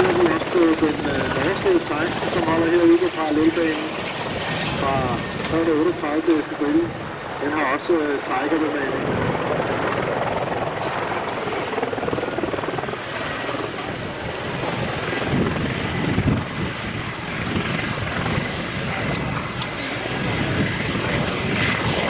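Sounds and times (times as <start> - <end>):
helicopter rotor beating: 0.0 - 22.0
turbine engine whine: 0.0 - 22.0.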